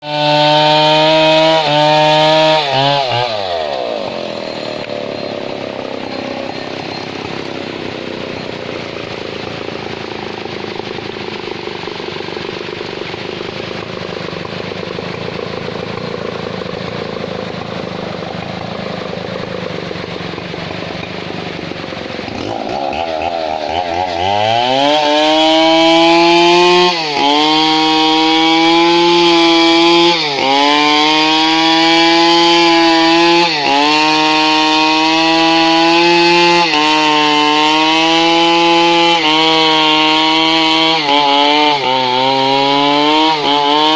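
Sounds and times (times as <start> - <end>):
chainsaw revving: 0.0 - 43.9.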